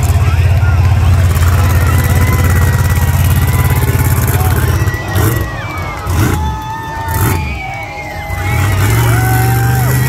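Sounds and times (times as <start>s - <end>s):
monster truck engine revving: 0.0s - 10.0s.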